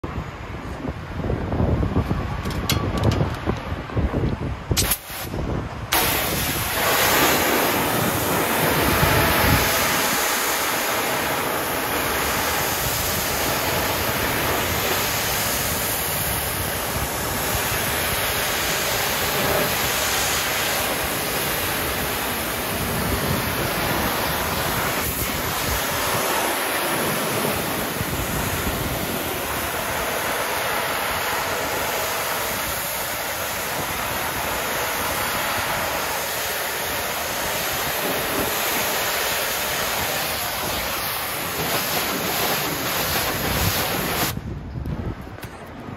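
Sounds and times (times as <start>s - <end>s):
pressure washer spraying water: 4.8s - 44.4s.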